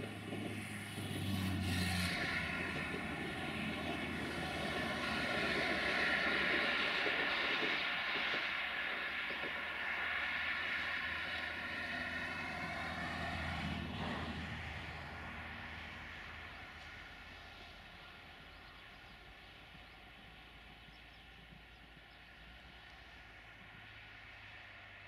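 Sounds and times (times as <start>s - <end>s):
diesel train engine drone: 0.0s - 25.0s
rail noise: 0.0s - 25.0s.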